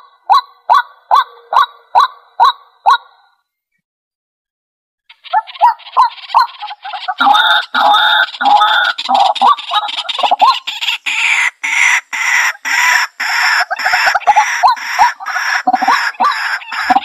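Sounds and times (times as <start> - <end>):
bird harsh croaking calls: 0.0 - 3.4, 5.1 - 17.0.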